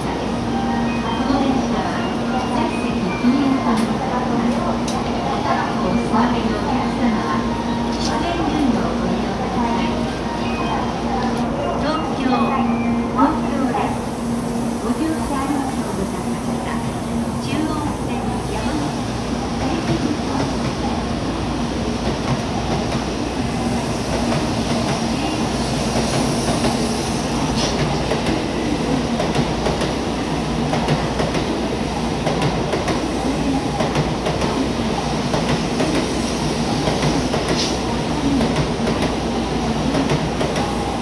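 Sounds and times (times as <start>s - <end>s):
train running noise: 0.0s - 41.0s.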